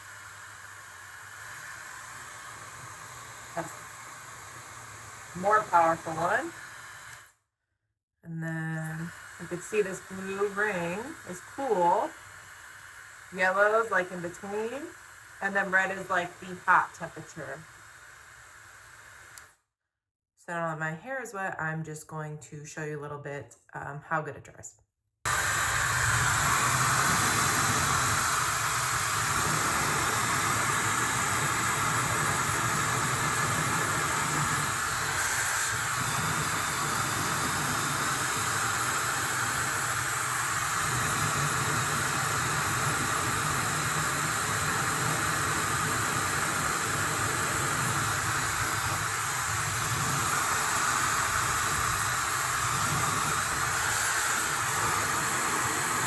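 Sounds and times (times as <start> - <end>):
hair dryer blowing air: 0.0 - 7.4, 8.6 - 19.6, 25.3 - 56.0.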